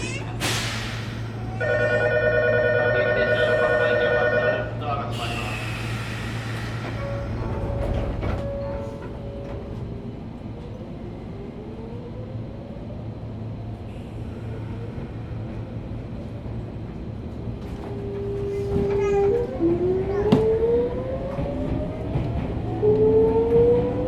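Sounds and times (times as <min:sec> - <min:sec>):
low train running rumble: 0:00.0 - 0:24.0.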